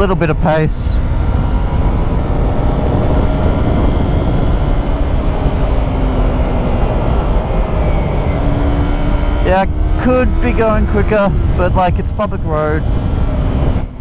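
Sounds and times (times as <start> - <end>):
motorcycle engine cruising: 0.0 - 14.0
wind noise: 0.0 - 14.0.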